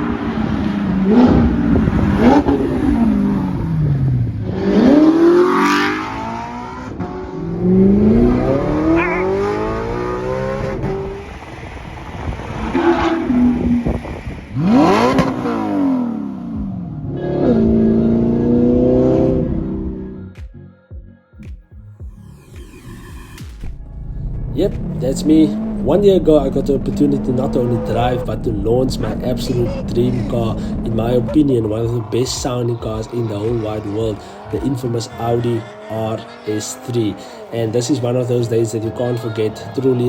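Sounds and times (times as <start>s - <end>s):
car exhaust revving and passing by: 0.0s - 20.2s, 23.6s - 40.0s.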